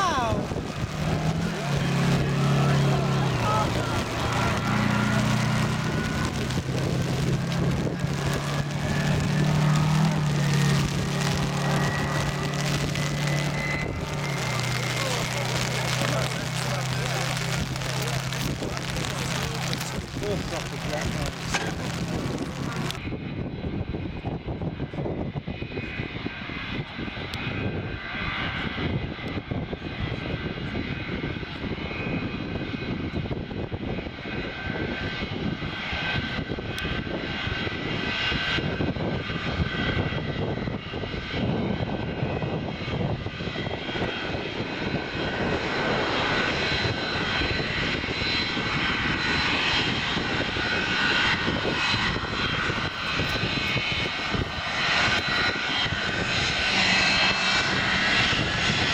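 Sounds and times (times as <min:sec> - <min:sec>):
jet engines rumbling and whining: 0:00.0 - 0:58.9.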